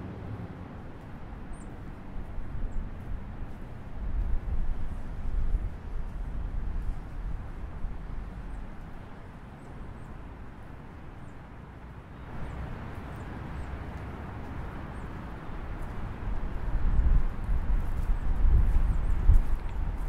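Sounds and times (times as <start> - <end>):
wind buffeting microphone: 0.0 - 10.6, 12.2 - 20.0
strong wind through trees: 0.0 - 20.0.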